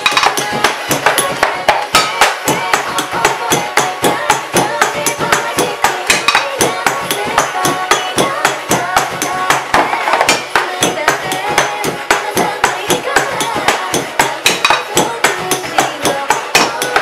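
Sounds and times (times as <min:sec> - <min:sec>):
pop song with singing: 0:00.0 - 0:17.0
sticks drumming on trash: 0:00.0 - 0:17.0.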